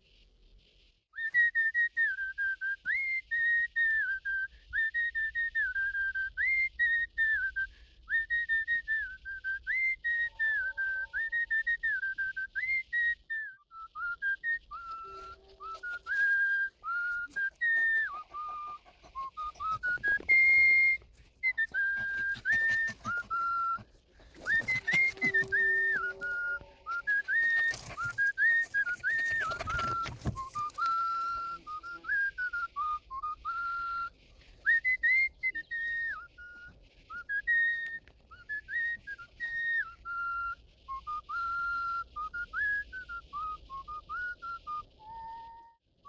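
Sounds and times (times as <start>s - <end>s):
person whistling a tune: 1.2s - 45.8s.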